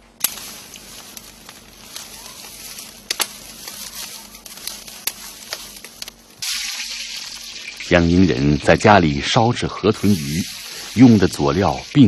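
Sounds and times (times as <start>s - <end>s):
fire crackling and popping: 0.0s - 12.0s
loud hiss: 0.0s - 12.0s.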